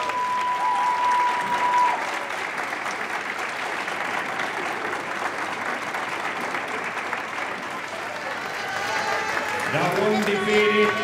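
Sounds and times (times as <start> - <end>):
spectators applauding: 0.0 - 11.0.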